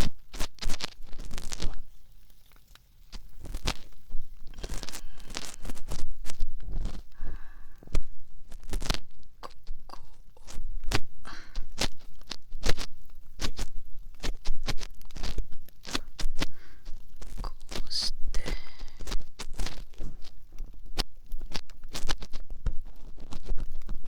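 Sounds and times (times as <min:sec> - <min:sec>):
crunchy clicks: 0:00.0 - 0:24.0
ear pick scraping in ear: 0:03.2 - 0:23.7.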